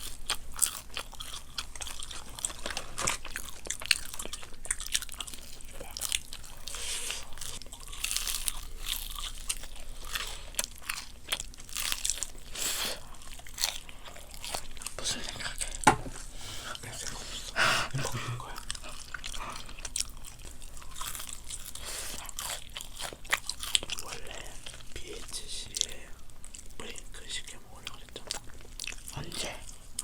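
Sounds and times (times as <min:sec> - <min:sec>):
crispy chicken crunching: 0:00.0 - 0:15.9, 0:17.9 - 0:27.1.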